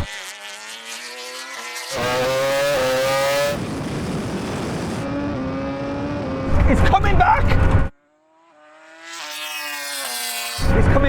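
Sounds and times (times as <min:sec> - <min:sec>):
drag racing engines accelerating: 0:00.0 - 0:11.0.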